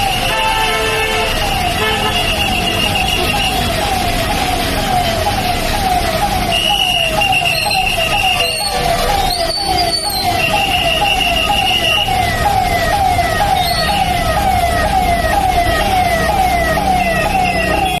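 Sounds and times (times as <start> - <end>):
electronic siren sweeping: 0.0 - 18.0.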